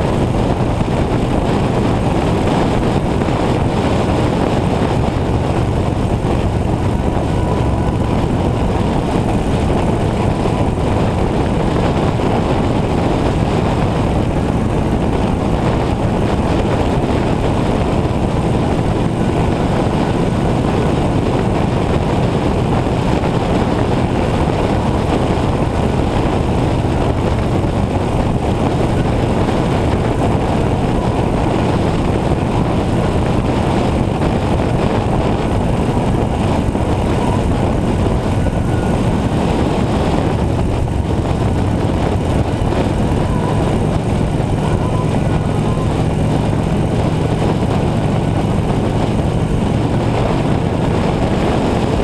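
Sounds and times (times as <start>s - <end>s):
motorcycle engine humming: 0.0s - 52.0s
wind rush over microphone: 0.0s - 52.0s.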